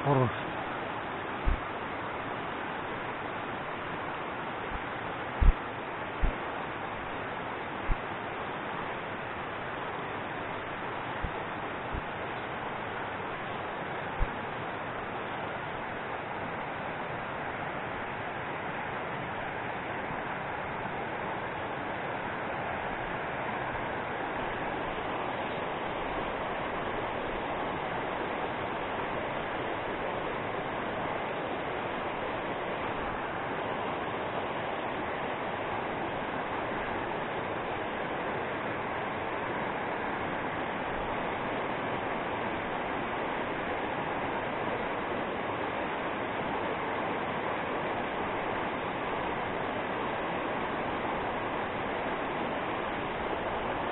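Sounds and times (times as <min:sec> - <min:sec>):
river rushing over rocks: 0:00.0 - 0:53.9.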